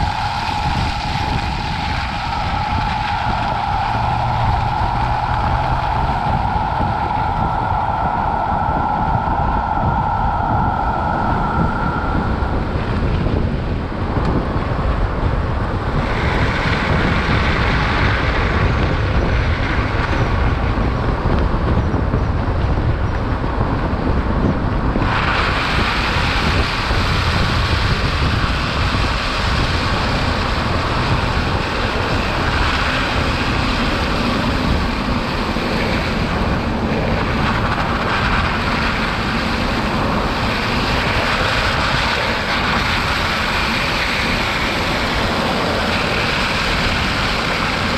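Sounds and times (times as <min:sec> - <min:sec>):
wind hiss: 0:00.0 - 0:47.9.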